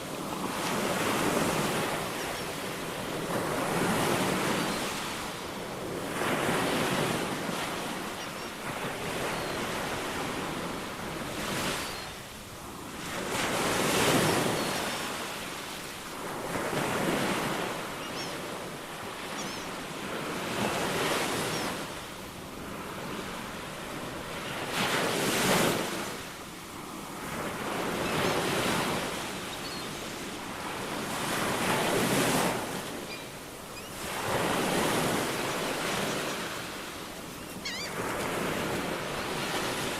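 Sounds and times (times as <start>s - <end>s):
ocean waves breaking: 0.0s - 11.9s, 12.6s - 39.9s.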